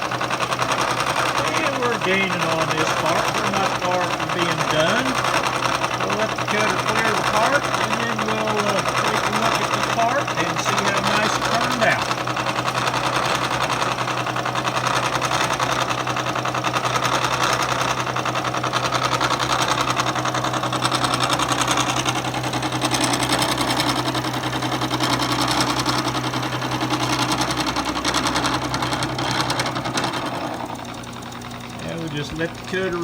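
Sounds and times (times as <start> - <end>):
milling cutter chattering on metal: 0.0 - 33.0
spindle motor hum: 0.0 - 33.0.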